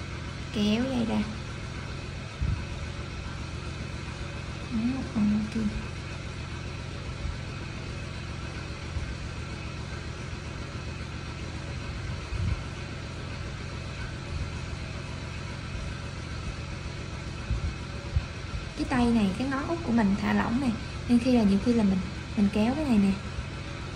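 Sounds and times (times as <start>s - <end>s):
low background rumble: 0.0s - 23.9s.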